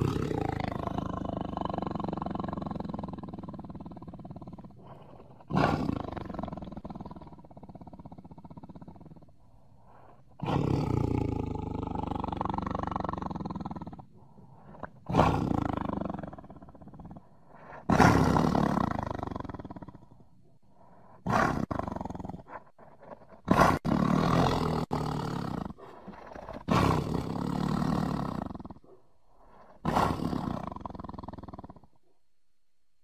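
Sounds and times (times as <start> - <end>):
tiger roaring: 0.0 - 20.5, 21.1 - 32.0.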